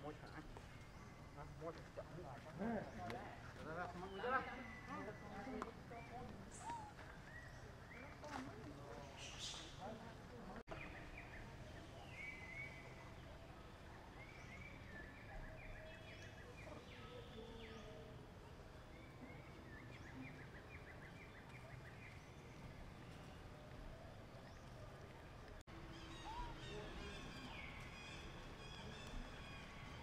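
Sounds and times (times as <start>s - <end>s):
low outdoor background hum: 0.0s - 30.0s.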